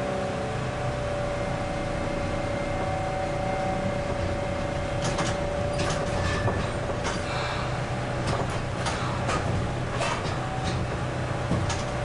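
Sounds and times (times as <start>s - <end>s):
streetcar rumbling on track: 0.0s - 12.0s.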